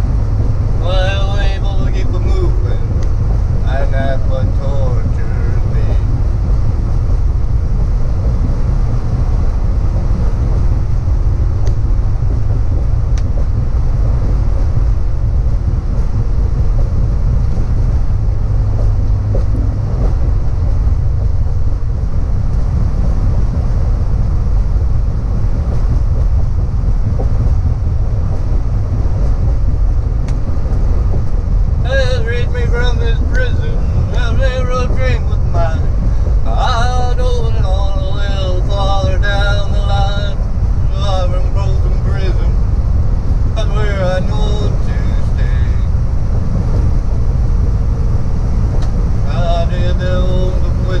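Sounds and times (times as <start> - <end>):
road noise: 0.0 - 51.0
truck engine rumble: 0.0 - 51.0
wind: 0.0 - 51.0.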